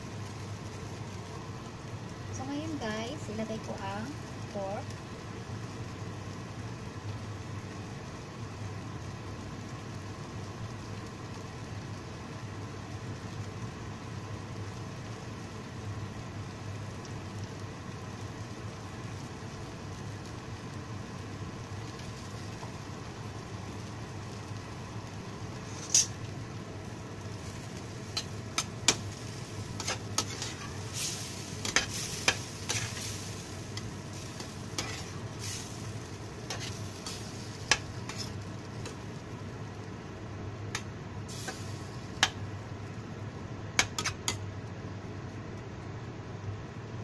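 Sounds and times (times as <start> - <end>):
gravy simmering in a pan: 0.0 - 47.0
low steady hum: 0.0 - 47.0.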